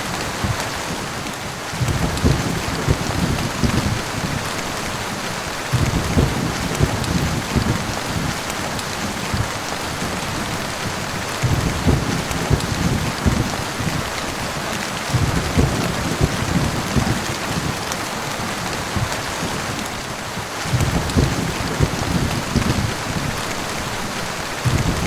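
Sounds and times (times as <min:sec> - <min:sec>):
heavy rain: 0:00.0 - 0:25.0
thunder rumbling: 0:00.2 - 0:25.0.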